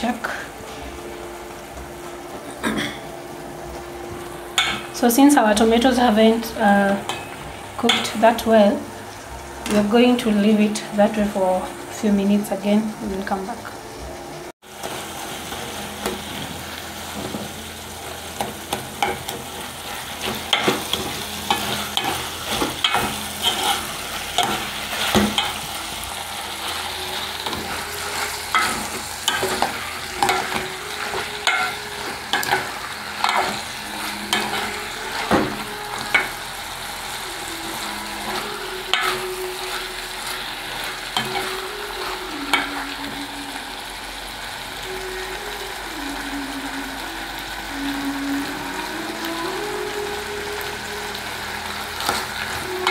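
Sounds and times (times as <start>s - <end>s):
frying sizzle: 0.0s - 52.9s.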